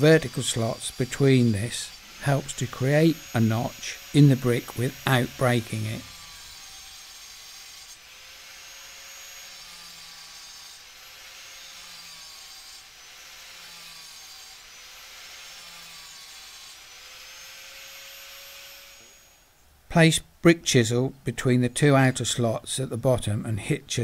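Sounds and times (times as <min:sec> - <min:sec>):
angle grinder cutting brick: 0:00.0 - 0:19.5.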